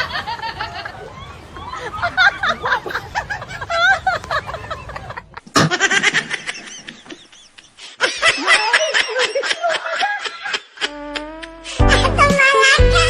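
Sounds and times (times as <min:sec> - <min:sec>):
people laughing: 0:00.0 - 0:13.0.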